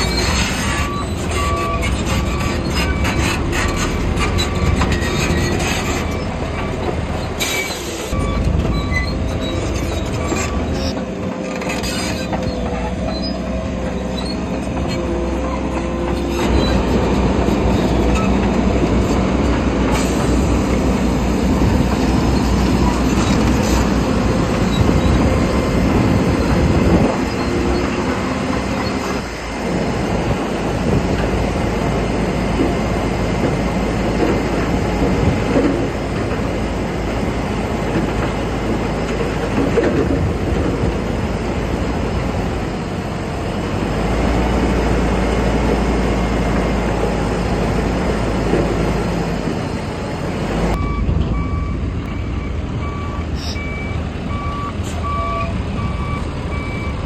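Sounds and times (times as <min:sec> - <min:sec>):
bulldozer diesel engine: 0:00.0 - 0:57.0
steel crawler tracks clanking: 0:00.0 - 0:57.0.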